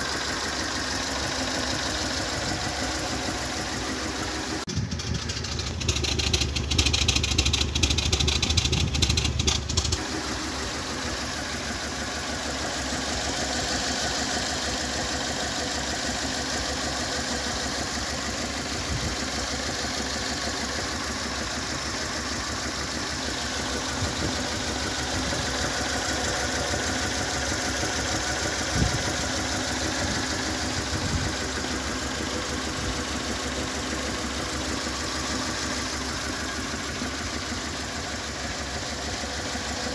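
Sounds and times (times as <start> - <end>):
engine idling roughly and misfiring: 0.0 - 39.9
exhaust puffing at tailpipe: 0.1 - 39.9.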